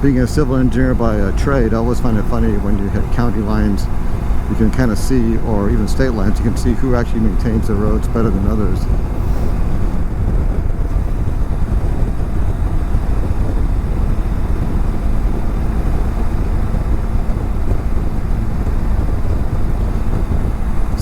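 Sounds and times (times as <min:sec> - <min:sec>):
motorcycle engine rumbling: 0:00.0 - 0:21.0
wind rushing on helmet: 0:00.0 - 0:21.0.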